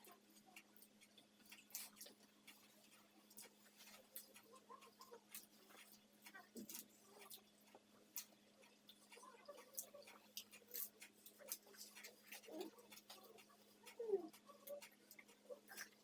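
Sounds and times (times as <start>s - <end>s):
people chewing and eating: 0.0s - 16.0s.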